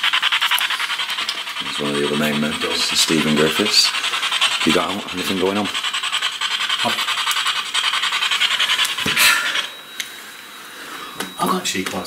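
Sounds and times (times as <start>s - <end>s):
fast-pulsing rasping hiss: 0.0s - 9.8s.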